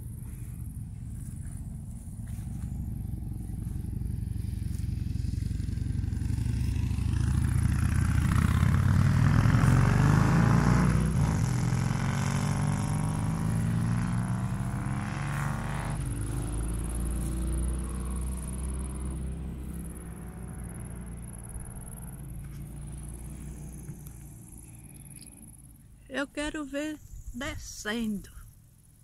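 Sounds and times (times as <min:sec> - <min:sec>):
motorcycles passing by: 0:00.0 - 0:26.5.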